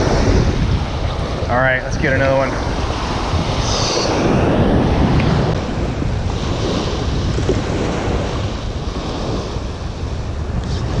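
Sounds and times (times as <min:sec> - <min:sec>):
surf waves breaking on sand: 0:00.0 - 0:11.0
wind buffeting microphone: 0:00.0 - 0:11.0.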